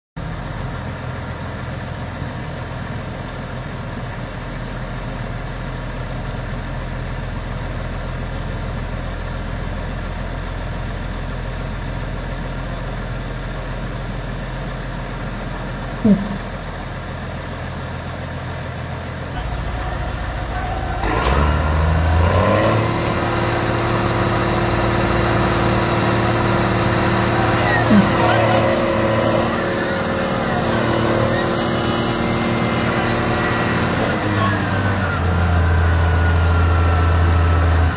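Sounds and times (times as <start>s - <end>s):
diesel tractor engines running: 0.2s - 37.9s.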